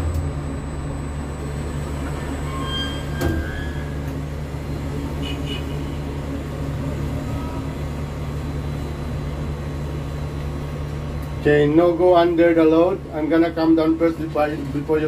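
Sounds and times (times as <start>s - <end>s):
low crane machinery hum: 0.0s - 15.0s.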